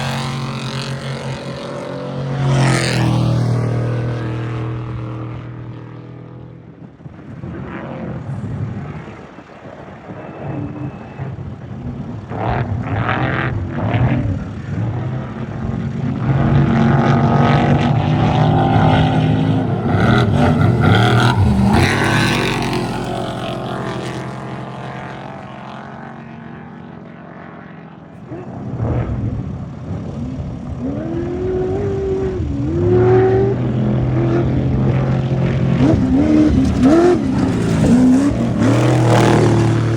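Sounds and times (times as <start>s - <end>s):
off-road race vehicles revving past: 0.0s - 39.9s.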